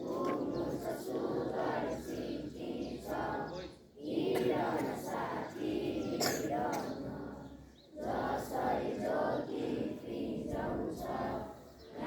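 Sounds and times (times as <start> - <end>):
children singing in chorus: 0.0 - 12.0.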